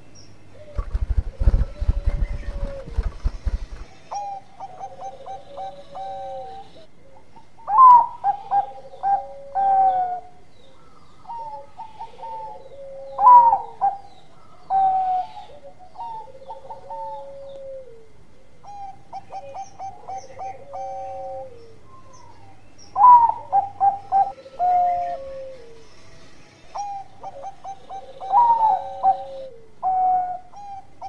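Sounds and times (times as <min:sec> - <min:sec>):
dove cooing: 0:00.5 - 0:26.0, 0:26.7 - 0:31.0.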